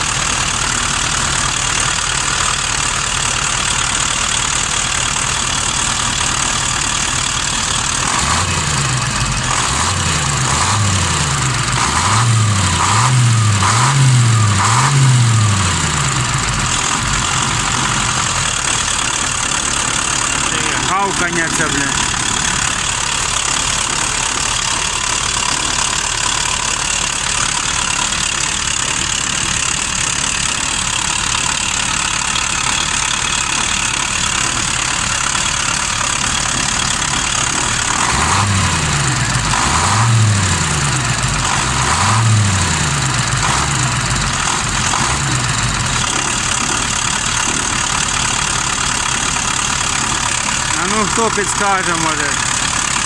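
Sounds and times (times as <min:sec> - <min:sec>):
diesel engine idling: 0:00.0 - 0:53.0
ticking engine knock: 0:00.0 - 0:53.0.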